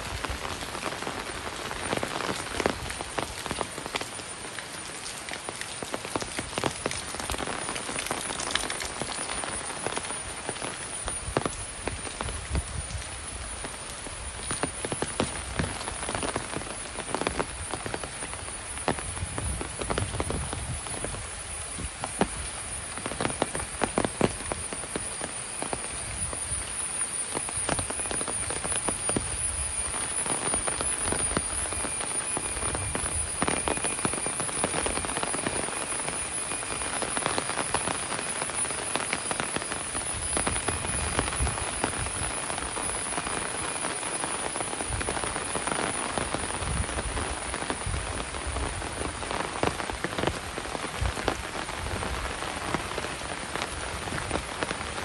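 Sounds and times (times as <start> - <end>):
heavy rain falling: 0.0 - 55.0
sharp raindrop impacts: 0.0 - 55.0.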